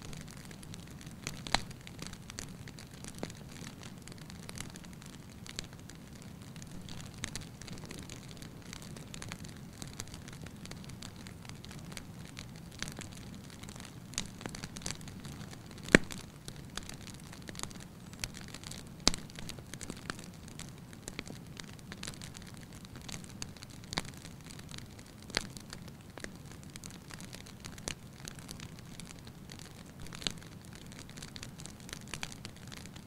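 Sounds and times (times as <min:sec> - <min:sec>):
low rumble of flames: 0:00.0 - 0:33.0
wood fire crackling: 0:00.0 - 0:33.0
sharp pops of fire: 0:00.1 - 0:33.0.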